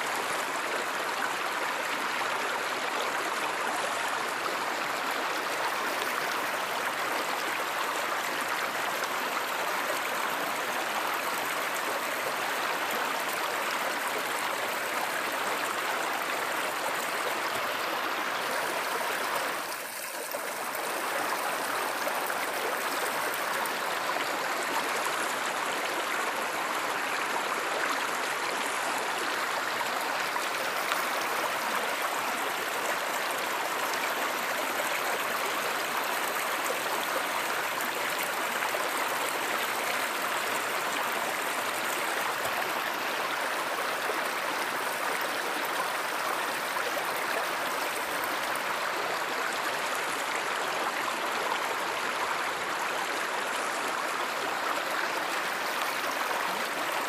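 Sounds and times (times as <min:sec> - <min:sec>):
river rushing and babbling: 0:00.0 - 0:57.0.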